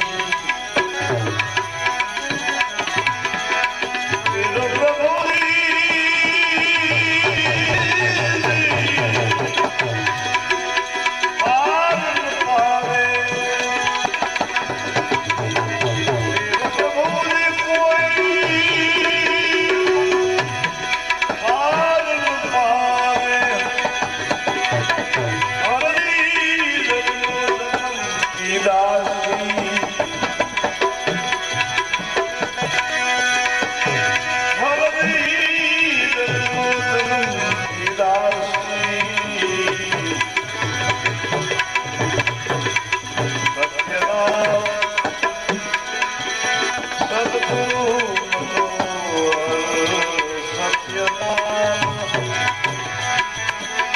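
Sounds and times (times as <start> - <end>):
tabla fast rhythm: 0.0 - 53.9.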